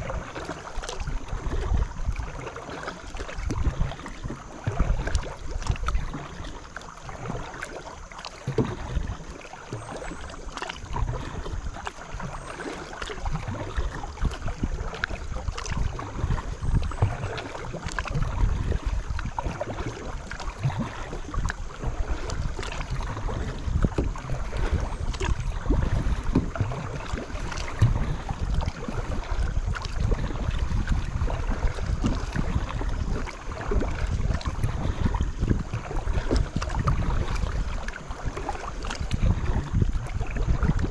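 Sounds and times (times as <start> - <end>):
water splashing around paddle: 0.0 - 40.9
wind rumbling on microphone: 0.0 - 40.9.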